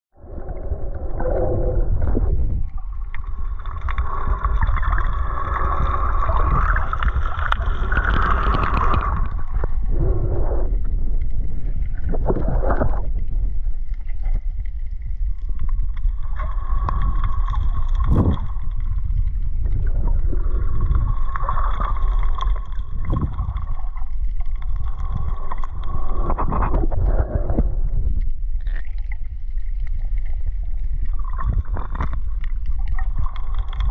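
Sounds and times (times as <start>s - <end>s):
underwater water rumble: 0.1s - 33.9s.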